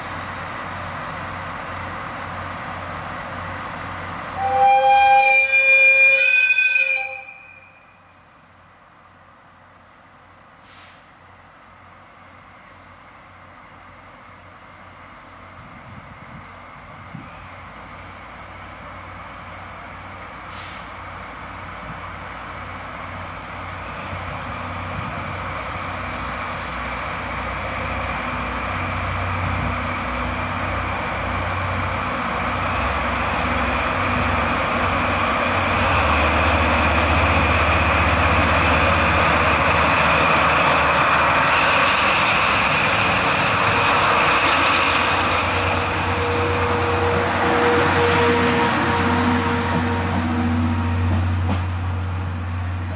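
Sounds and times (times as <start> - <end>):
diesel locomotive engine drone: 0.0 - 52.9
train coaches rolling past: 0.0 - 52.9.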